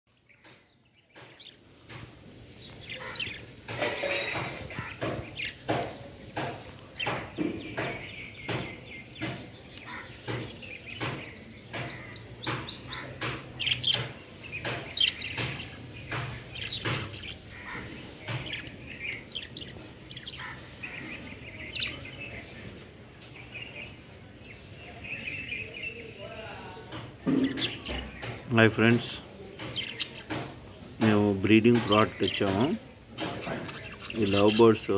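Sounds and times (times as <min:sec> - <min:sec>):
birds pecking at clay pot: 0:00.1 - 0:34.9
lovebirds chirping: 0:00.1 - 0:34.9.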